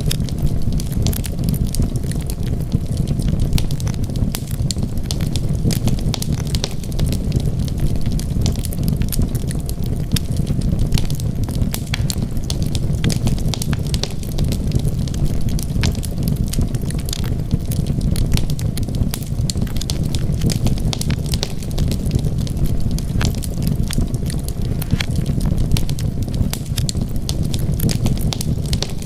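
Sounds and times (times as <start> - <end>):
fire crackling and popping: 0.0 - 29.0
wood fire roaring: 0.0 - 29.0.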